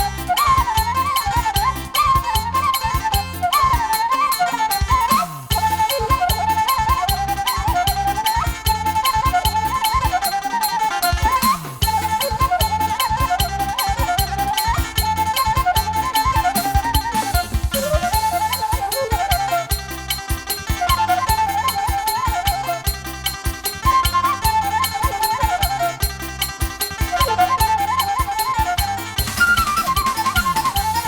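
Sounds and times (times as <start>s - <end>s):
flute-like melody: 0.0s - 31.0s
steady drum beat: 0.0s - 31.0s.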